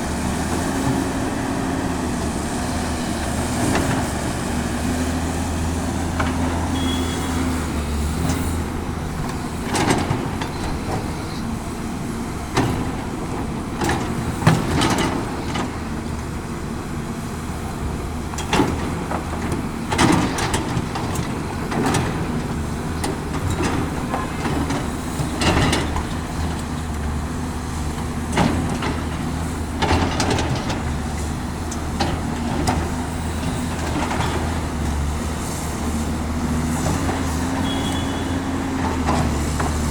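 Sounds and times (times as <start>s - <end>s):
excavator diesel engine running: 0.0s - 39.9s
excavator knocks and clanks: 0.0s - 39.9s.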